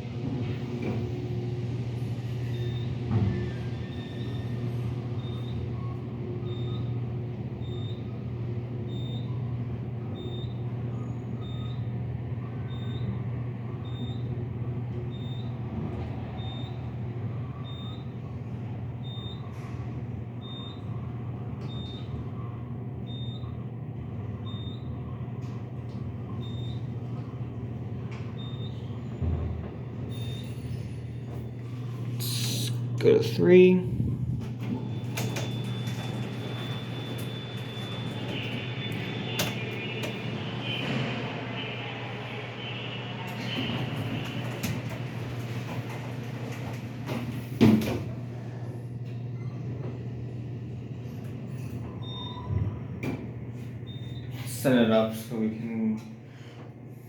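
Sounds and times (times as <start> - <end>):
elevator humming: 0.0 - 57.0.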